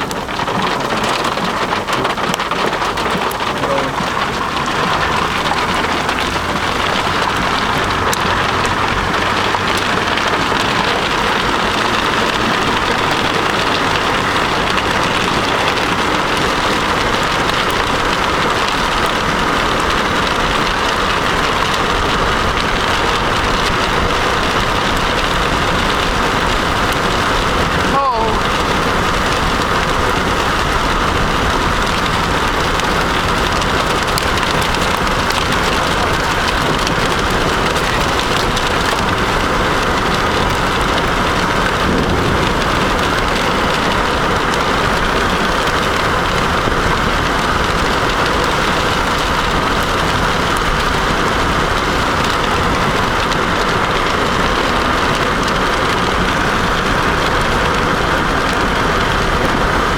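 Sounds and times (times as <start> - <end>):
heavy rain on a car: 0.0 - 59.9.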